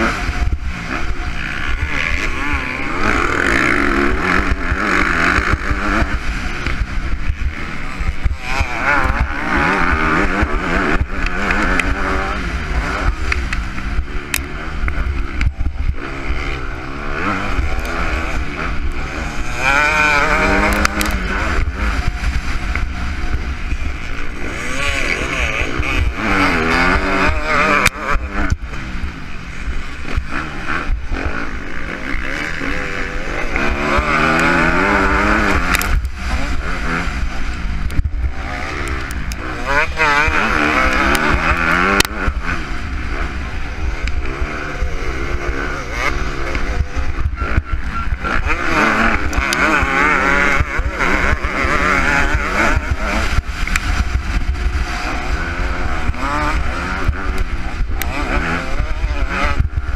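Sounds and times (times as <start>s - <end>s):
dirt bike engine revving: 0.0s - 59.9s
wind rumble on microphone: 0.0s - 59.9s.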